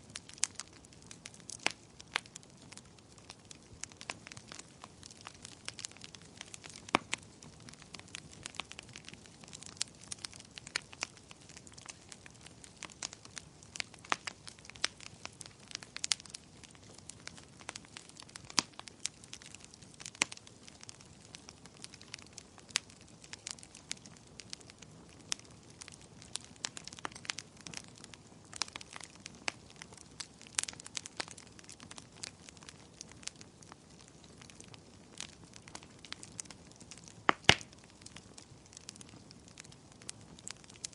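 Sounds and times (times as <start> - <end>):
fire crackling and popping: 0.0 - 40.9
soft steady hiss: 0.0 - 40.9.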